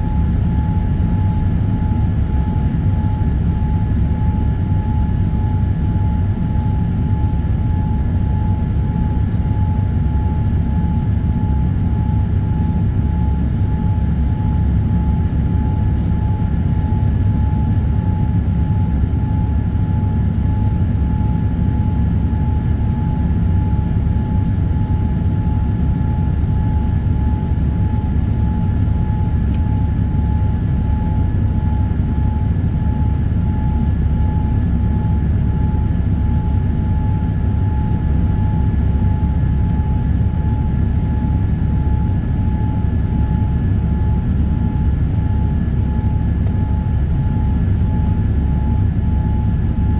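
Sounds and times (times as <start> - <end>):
airliner engine and airflow roar: 0.0 - 49.9.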